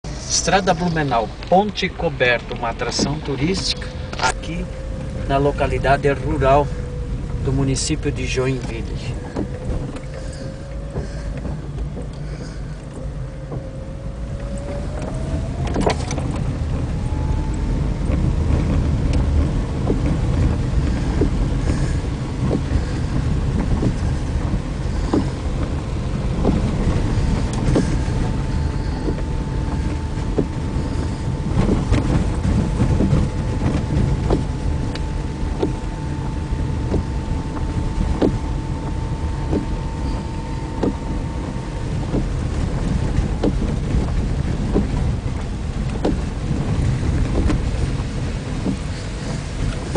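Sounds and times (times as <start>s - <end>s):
car rumbling on dirt road: 0.0s - 49.9s
rising car whine: 0.0s - 49.9s.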